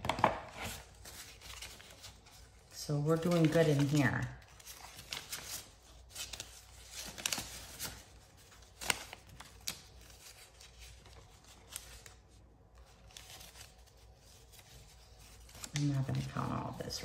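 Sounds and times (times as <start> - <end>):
paper bills rustling: 0.6 - 17.0.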